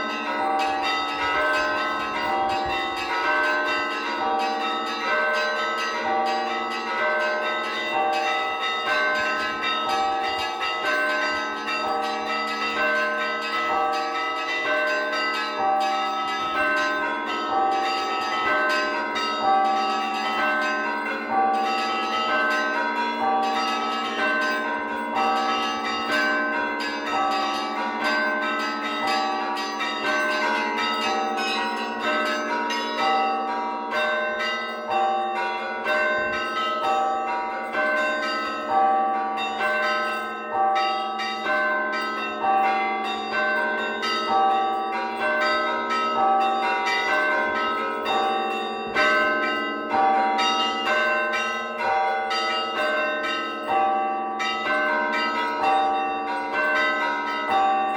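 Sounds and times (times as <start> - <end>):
large bells humming: 0.0 - 57.9
small church bells pealing: 0.0 - 57.9.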